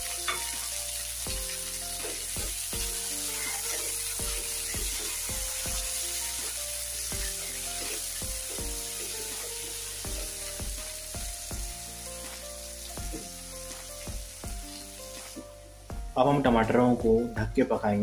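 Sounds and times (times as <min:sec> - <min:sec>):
vegetables sizzling in hot oil: 0:00.0 - 0:15.6
background music: 0:00.0 - 0:18.0.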